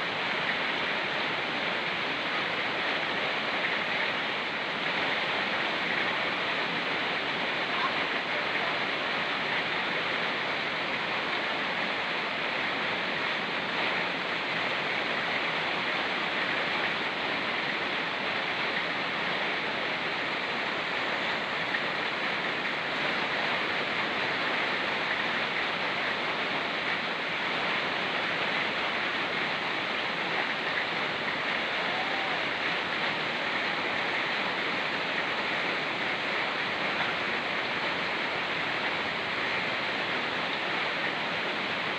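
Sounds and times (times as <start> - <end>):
fast-flowing river: 0.0 - 41.9
rain falling: 0.0 - 41.9.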